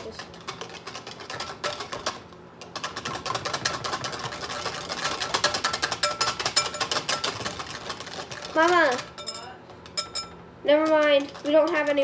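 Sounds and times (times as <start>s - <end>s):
whisk beating in glass bowl: 0.4s - 12.0s.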